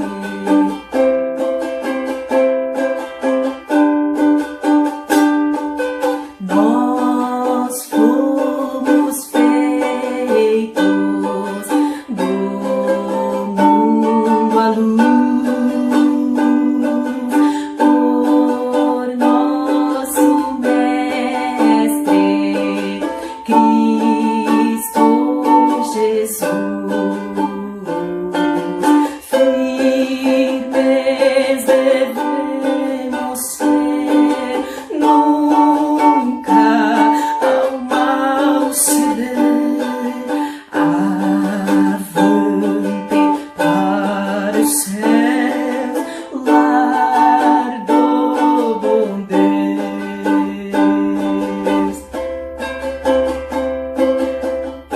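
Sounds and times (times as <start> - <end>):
ukulele strumming chords: 0.0 - 54.9.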